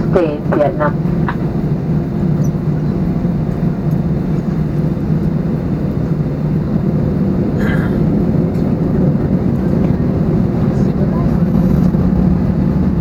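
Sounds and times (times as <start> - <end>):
aircraft engines rumbling in cabin: 0.0 - 13.0.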